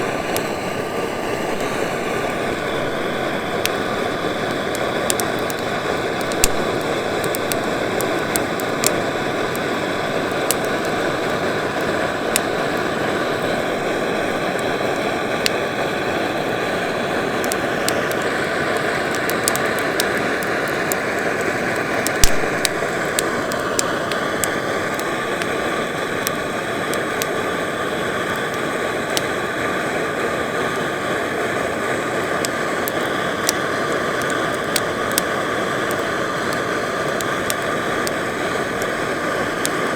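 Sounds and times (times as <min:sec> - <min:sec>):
wood popping: 0:00.0 - 0:27.4, 0:32.2 - 0:39.9
wood crackling: 0:00.0 - 0:29.6, 0:31.5 - 0:39.9
gas torch flame hissing: 0:00.0 - 0:39.9.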